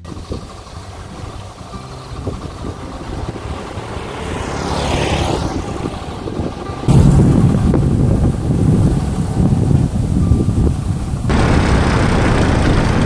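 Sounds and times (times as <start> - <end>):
motorcycle riding past: 0.0 - 11.3
low engine rumble: 0.0 - 13.0.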